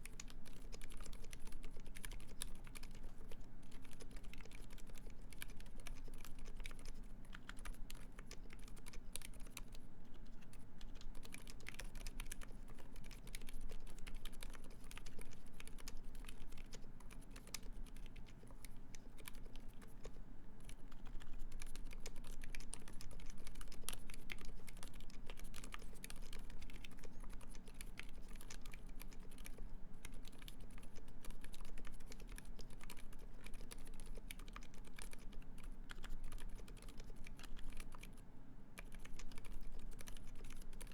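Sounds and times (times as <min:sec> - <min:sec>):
quiet mechanical keyboard typing: 0:00.0 - 0:40.9.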